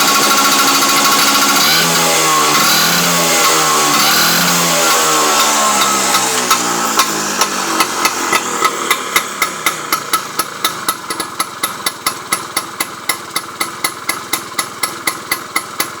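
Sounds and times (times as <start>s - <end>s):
exhaust popping: 0.0s - 16.0s
scooter engine idling: 0.0s - 16.0s.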